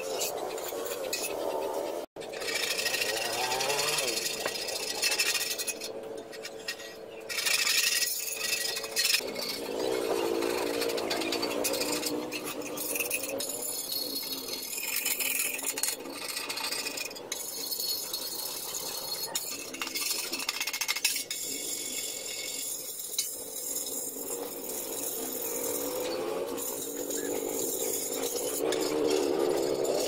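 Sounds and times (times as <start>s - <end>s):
hand tool rattling on metal: 0.0s - 30.0s.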